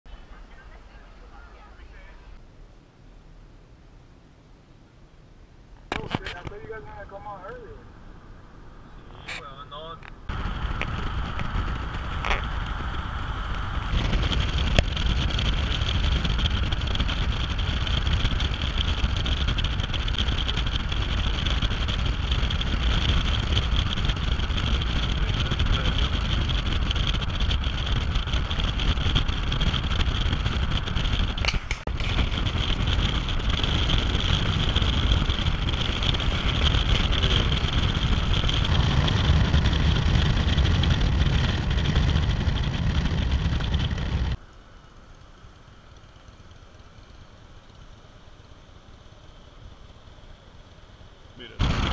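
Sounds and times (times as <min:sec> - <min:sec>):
low engine rumble: 0:00.1 - 0:51.9
tyre and wind road noise: 0:00.1 - 0:51.9.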